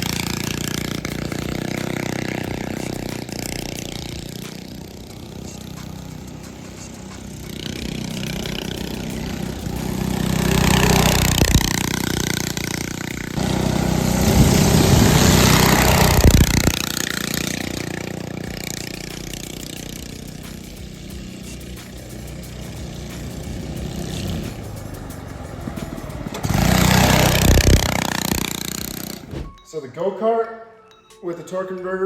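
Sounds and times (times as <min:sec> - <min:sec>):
go-kart engine running: 0:00.0 - 0:29.5.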